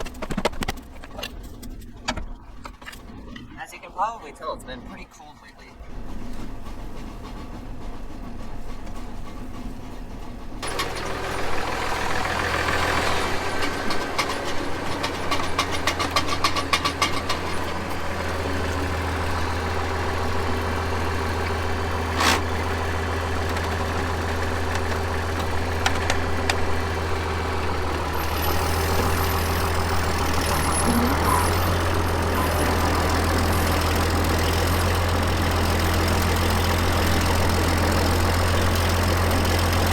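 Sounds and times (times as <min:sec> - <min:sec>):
rapid clatter: 0:00.0 - 0:03.6, 0:05.8 - 0:39.9
engine humming: 0:00.0 - 0:39.9.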